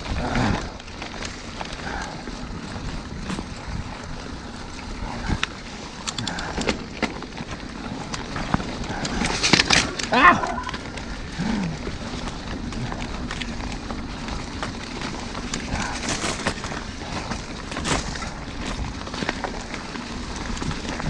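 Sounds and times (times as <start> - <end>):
bike rattling and knocking: 0.0 - 21.0
bike tyre rumble: 0.0 - 21.0
wind: 0.0 - 21.0.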